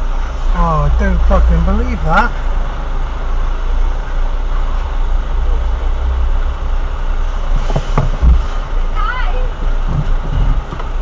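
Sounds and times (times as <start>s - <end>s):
idling vehicle engines rumbling: 0.0s - 11.0s.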